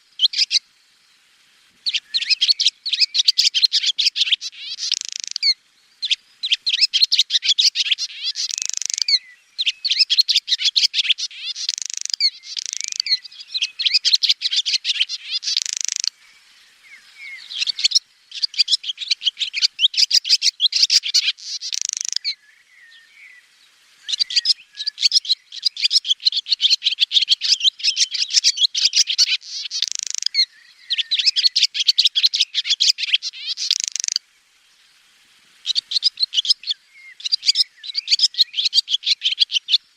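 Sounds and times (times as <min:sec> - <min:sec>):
swallow twittering: 0:00.0 - 0:00.6, 0:01.8 - 0:23.4, 0:24.1 - 0:34.2, 0:35.6 - 0:39.9.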